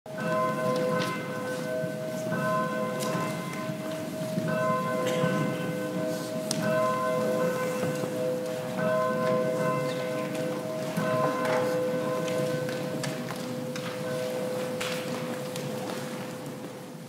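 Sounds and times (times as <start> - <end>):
low church bell tones: 0.1 - 16.4.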